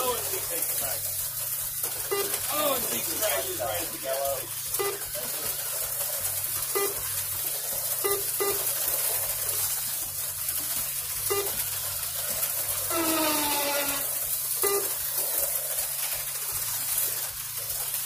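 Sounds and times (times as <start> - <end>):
slot car motors whirring: 0.0 - 18.0.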